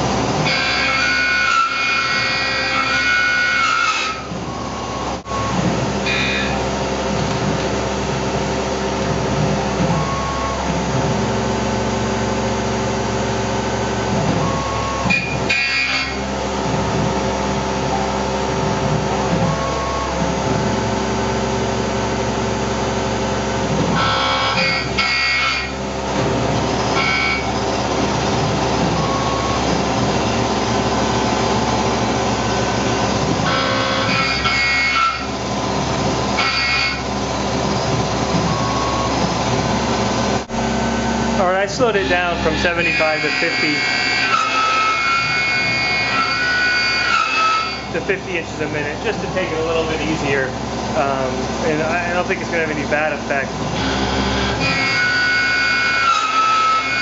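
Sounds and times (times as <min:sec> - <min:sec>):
milling machine cutting metal: 0:00.0 - 0:57.0.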